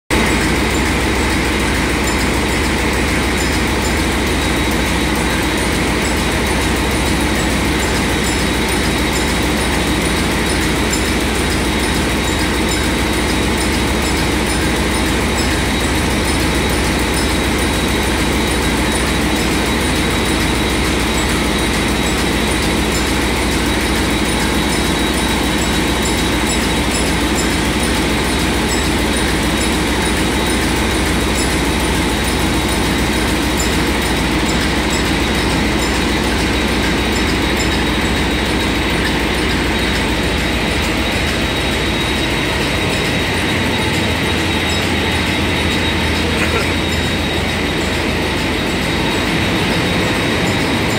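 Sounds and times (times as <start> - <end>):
diesel engine running: 0.1 - 50.9.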